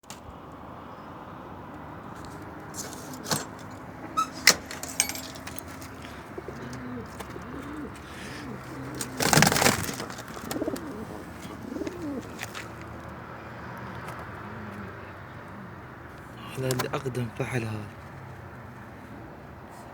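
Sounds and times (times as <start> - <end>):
pigeons cooing: 2.4 - 16.8, 18.2 - 19.9.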